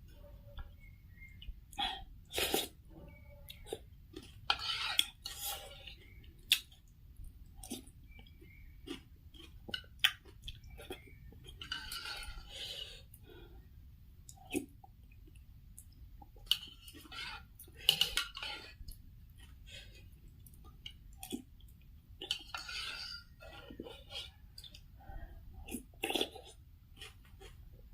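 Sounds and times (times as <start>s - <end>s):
person chewing and slurping: 0.7s - 2.8s, 3.4s - 6.9s, 7.5s - 13.2s, 14.2s - 25.0s, 25.6s - 27.8s.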